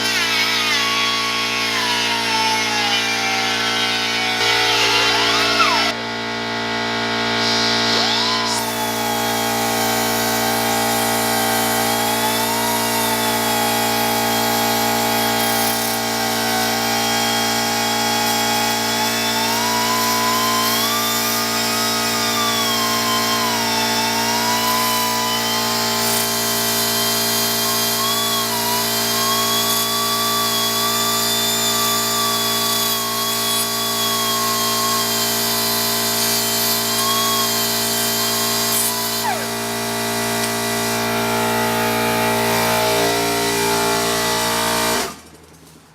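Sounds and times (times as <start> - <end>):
air grinder cutting steel: 0.0 - 6.0, 6.6 - 45.3.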